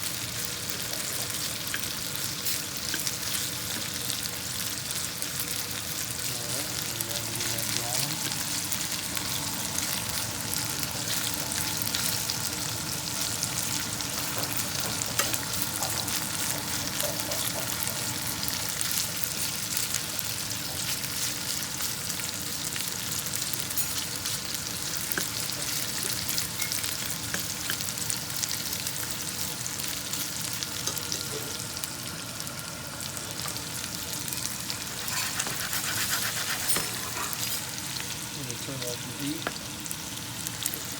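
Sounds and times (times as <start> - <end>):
chicken sizzling in a pan: 0.0 - 40.9.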